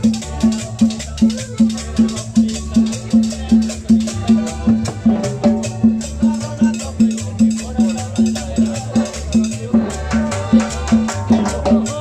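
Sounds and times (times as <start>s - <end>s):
hand percussion: 0.0s - 12.0s
latin dance band music: 0.0s - 12.0s
upright bass pulsing: 0.0s - 12.0s.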